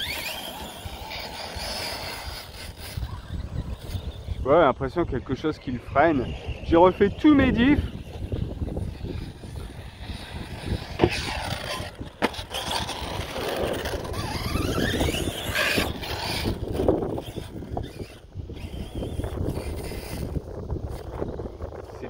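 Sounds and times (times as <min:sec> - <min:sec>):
rc car motor whining: 0:00.0 - 0:22.0
wind rumble on microphone: 0:00.0 - 0:22.0.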